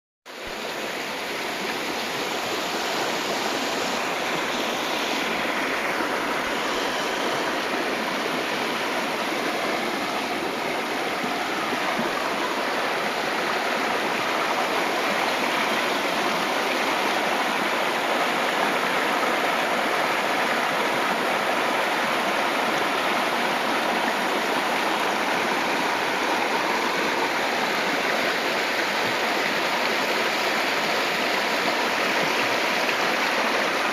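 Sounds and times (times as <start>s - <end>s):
creek water running over rocks: 0.3s - 33.9s.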